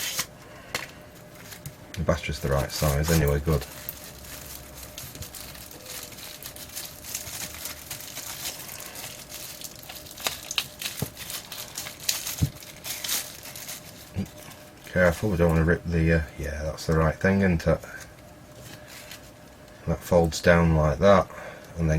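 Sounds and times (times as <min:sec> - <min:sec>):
plastic wrapping crinkling: 0:00.0 - 0:15.8, 0:17.7 - 0:19.8.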